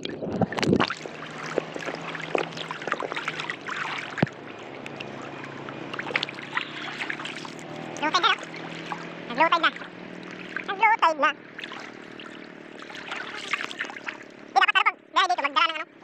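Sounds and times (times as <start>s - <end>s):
water sloshing and splashing: 0.0s - 14.6s.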